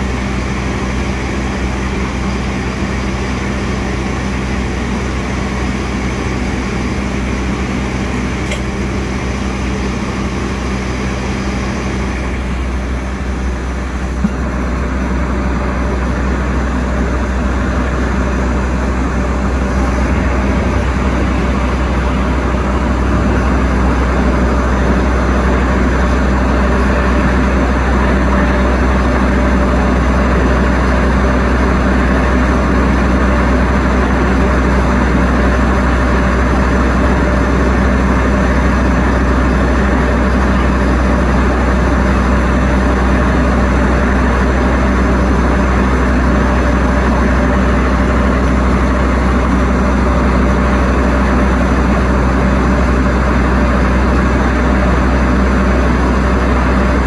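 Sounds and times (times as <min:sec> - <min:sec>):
electric trains humming: 0:00.0 - 0:57.0.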